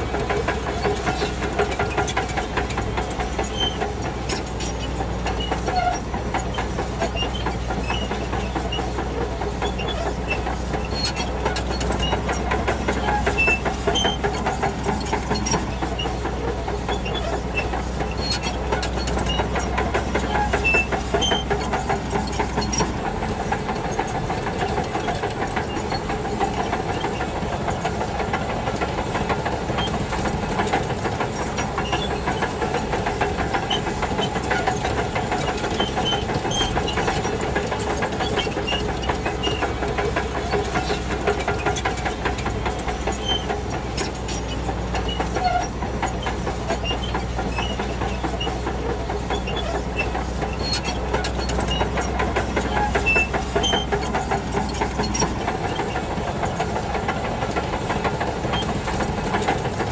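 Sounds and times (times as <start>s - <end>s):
bulldozer diesel engine: 0.0s - 59.9s
steel tracks clattering: 0.0s - 59.9s.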